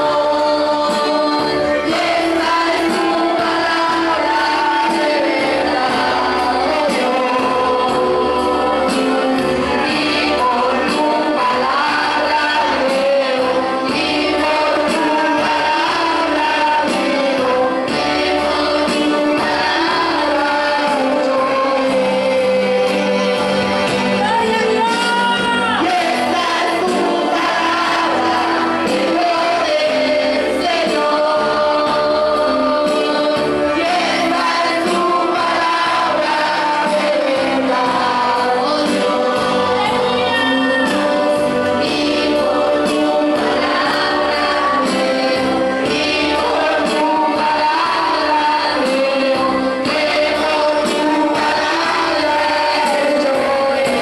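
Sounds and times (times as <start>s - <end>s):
instrumental accompaniment with bass: 0.0s - 54.0s
voices singing: 0.0s - 54.0s.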